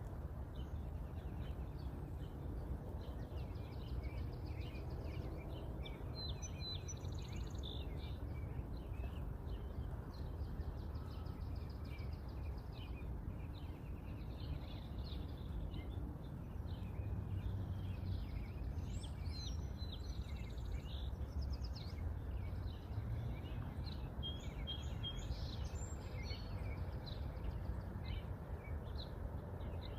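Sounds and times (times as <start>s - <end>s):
low background rumble: 0.0s - 29.9s
small birds chirping: 0.0s - 29.9s.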